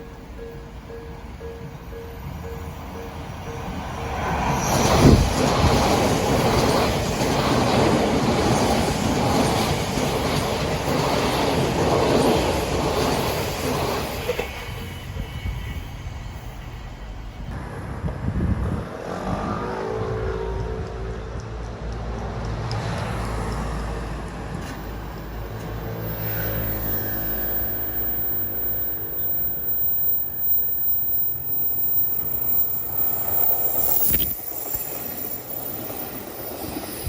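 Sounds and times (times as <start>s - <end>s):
electric train passing: 0.0s - 37.0s.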